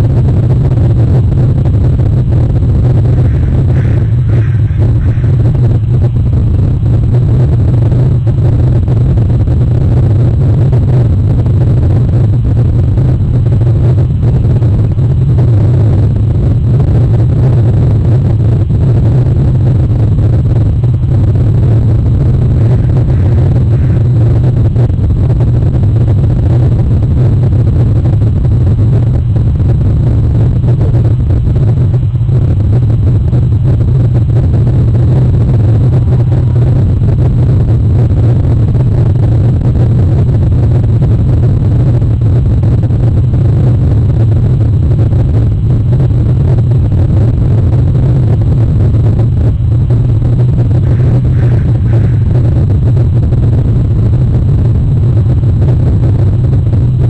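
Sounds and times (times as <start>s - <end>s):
loud low rumble: 0.0s - 57.0s.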